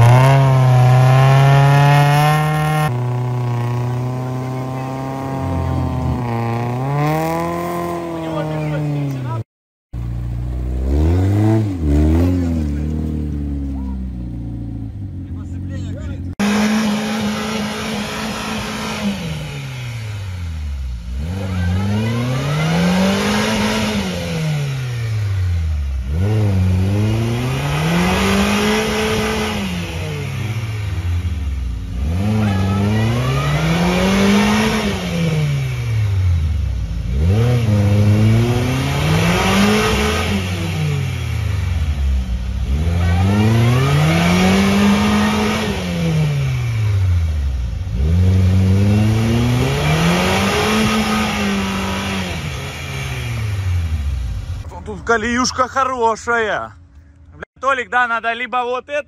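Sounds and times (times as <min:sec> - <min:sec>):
car engine revving: 0:00.0 - 0:09.4, 0:10.0 - 0:55.9.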